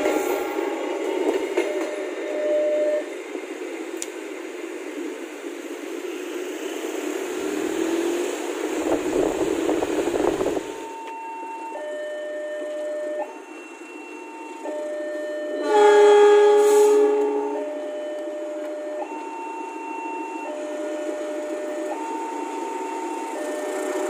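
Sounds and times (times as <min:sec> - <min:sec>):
train wheels rumbling on rail: 0:00.0 - 0:11.9, 0:12.6 - 0:24.0.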